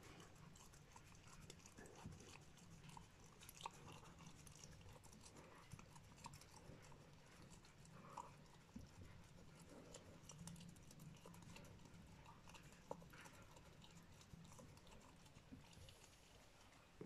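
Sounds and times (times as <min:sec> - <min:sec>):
dog licking plastic cup: 0:00.0 - 0:17.0.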